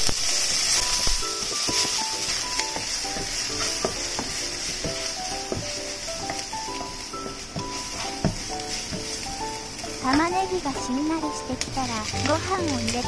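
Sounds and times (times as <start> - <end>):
light background music: 0.0 - 13.0
onion sizzling in hot oil: 0.0 - 13.0
turner scraping and tapping pan: 0.0 - 13.0.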